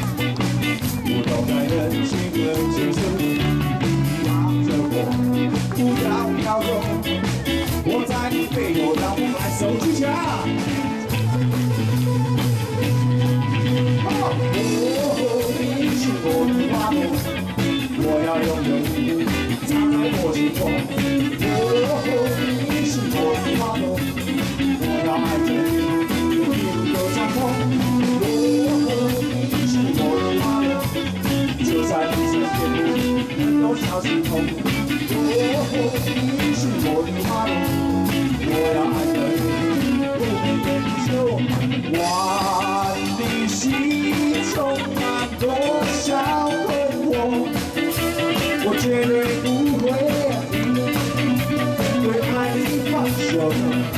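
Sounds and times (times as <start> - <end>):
drum kit: 0.0 - 53.9
electric guitars: 0.0 - 53.9.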